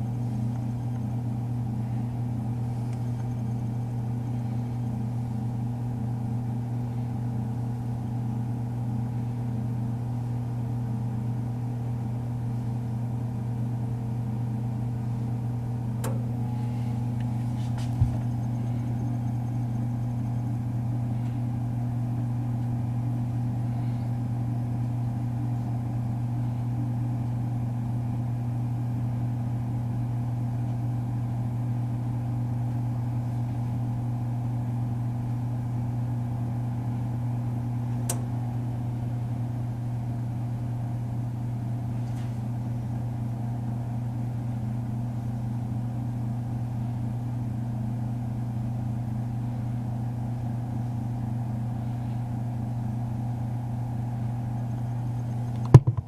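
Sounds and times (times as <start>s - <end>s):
toaster oven humming: 0.0s - 56.0s.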